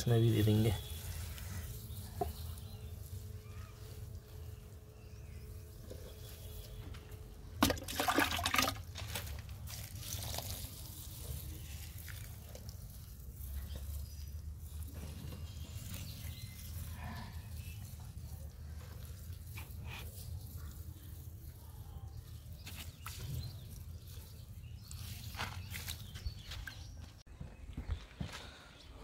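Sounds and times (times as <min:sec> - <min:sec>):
water trickling onto soil: 0:00.0 - 0:27.2.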